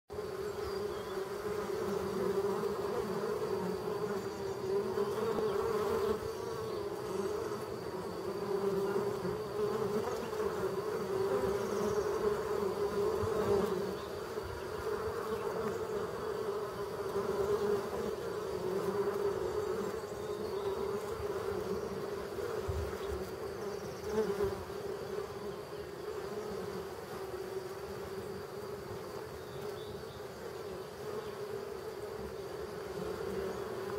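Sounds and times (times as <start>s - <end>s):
honeybees humming: 0.1s - 33.9s.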